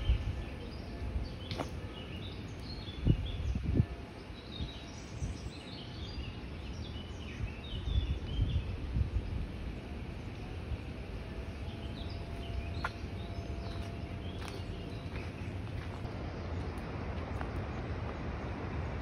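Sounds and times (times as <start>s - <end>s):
small birds chirping: 0.0s - 18.5s
low uneven rumble: 0.0s - 19.0s.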